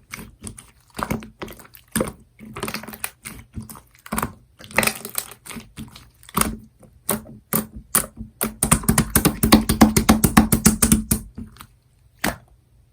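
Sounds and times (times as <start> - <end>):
slime popping and crackling: 0.1 - 11.3.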